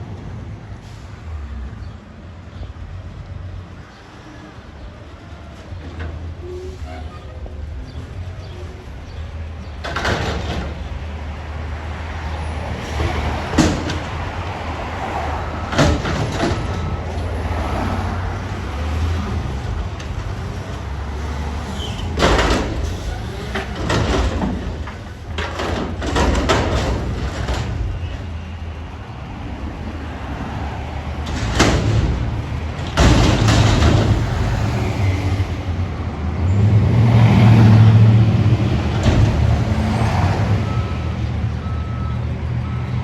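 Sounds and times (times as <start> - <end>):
diesel engine rumbling: 0.0 - 43.0.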